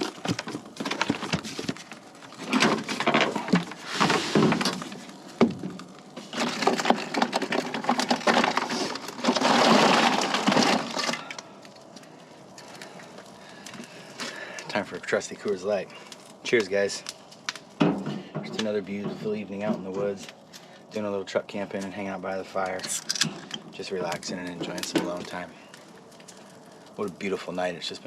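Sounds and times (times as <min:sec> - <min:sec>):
clicks knocks and crackling: 0:00.0 - 0:20.8, 0:21.7 - 0:27.4.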